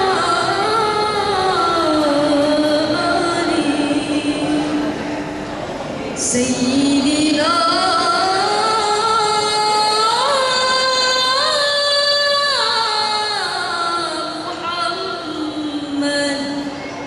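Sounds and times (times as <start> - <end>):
woman singing into a microphone: 0.0 - 5.0, 6.2 - 16.8.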